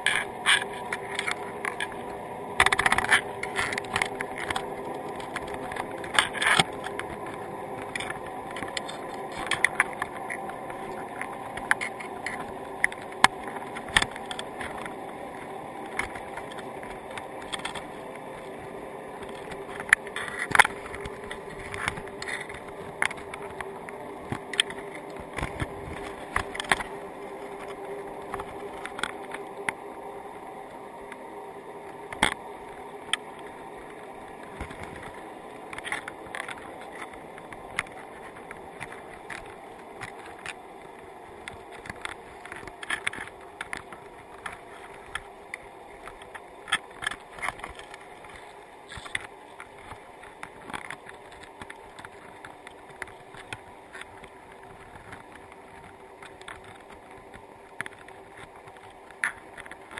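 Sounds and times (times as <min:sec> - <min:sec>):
crabs clicking on mesh: 0:00.0 - 0:29.8, 0:31.9 - 0:59.9
underwater hum: 0:00.0 - 0:59.9.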